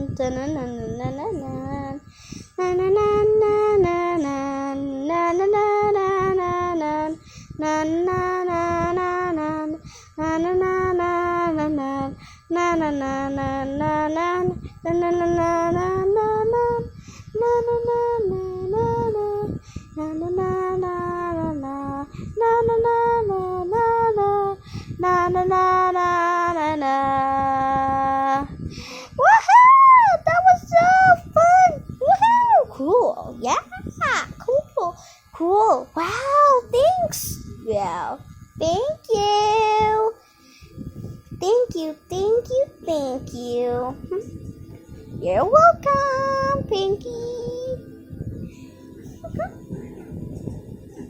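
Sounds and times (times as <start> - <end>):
girl singing wordless tune: 0.0 - 44.5, 45.1 - 49.7.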